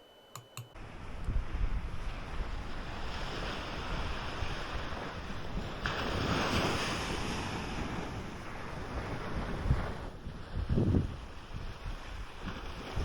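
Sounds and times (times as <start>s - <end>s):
ocean waves breaking: 0.8s - 13.0s
wind on microphone: 0.8s - 13.0s.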